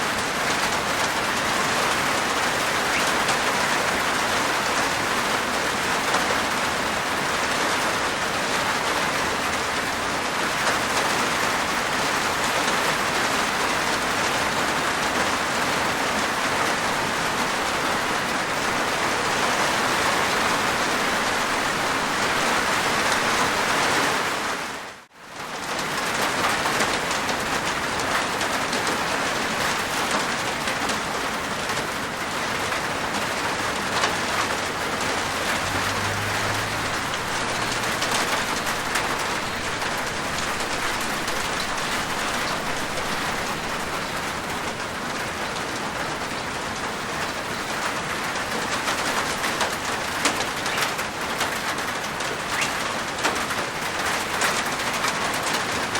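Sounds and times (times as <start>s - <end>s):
rain on a rooftop: 0.0s - 55.9s.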